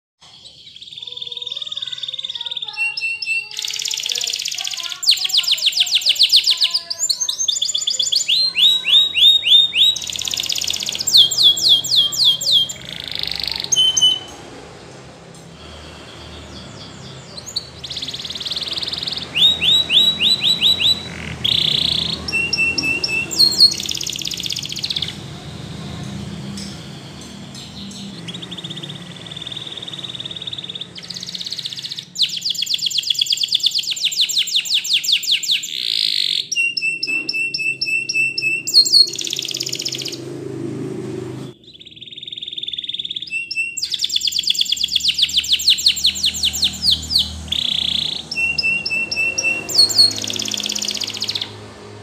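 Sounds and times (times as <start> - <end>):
canary singing trills: 0.2 - 52.0.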